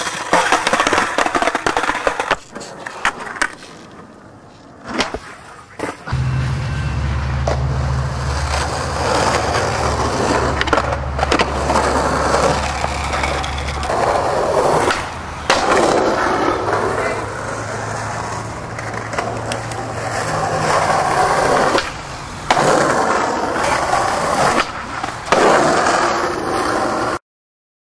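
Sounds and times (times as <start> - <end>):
skateboard clacks: 0.0 - 6.1, 8.3 - 27.2
skateboard wheels rolling on concrete: 0.0 - 6.2, 7.4 - 27.2.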